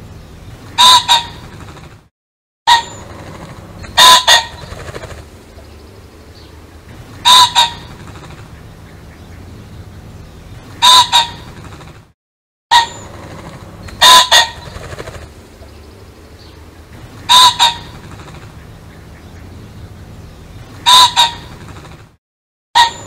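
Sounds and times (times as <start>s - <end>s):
pheasant calling: 0.7s - 1.6s, 2.7s - 11.6s, 12.7s - 21.9s, 22.8s - 23.0s.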